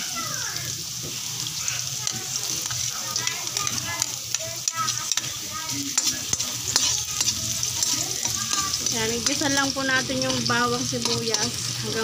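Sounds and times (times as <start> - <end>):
onion sizzling in hot oil: 0.0 - 12.0
metal spatula scraping pan: 2.0 - 12.0.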